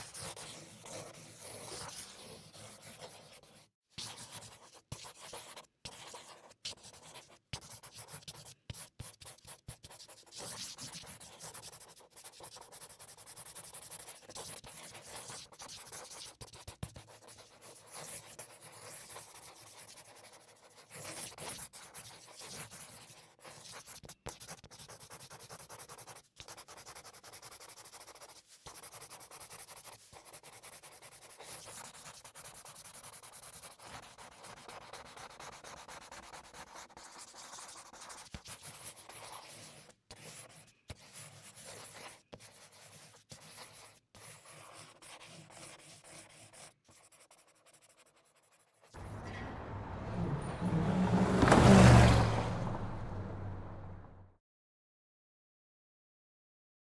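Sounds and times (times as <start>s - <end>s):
drawing tools scratching on paper: 0.0s - 49.0s.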